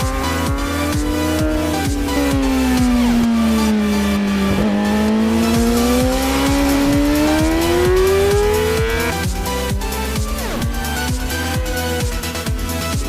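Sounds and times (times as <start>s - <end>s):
electronic music with steady beat: 0.0s - 13.0s
motorcycle engine at high revs: 0.0s - 13.0s.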